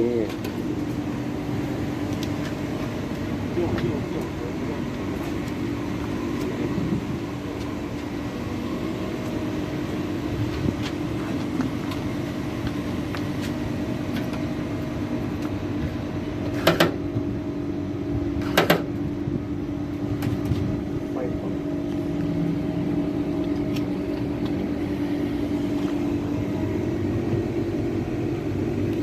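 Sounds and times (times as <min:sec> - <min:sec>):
machinery hum: 0:00.0 - 0:29.0.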